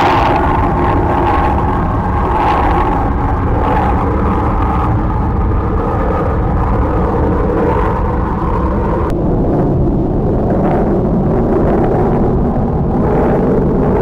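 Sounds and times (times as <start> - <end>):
rocket engine rumbling: 0.0 - 14.0.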